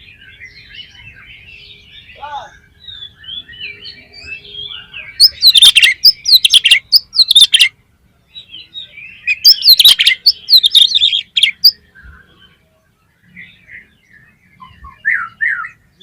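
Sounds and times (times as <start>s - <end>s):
bird singing whistles and chatter: 0.0s - 7.7s, 8.4s - 12.6s, 13.3s - 16.0s
soft bird twittering: 0.0s - 16.0s.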